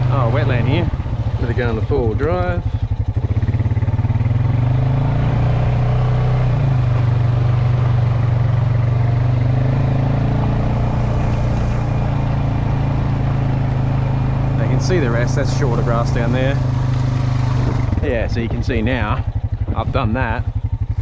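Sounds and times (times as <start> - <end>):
farm vehicle engine under load: 0.0 - 21.0.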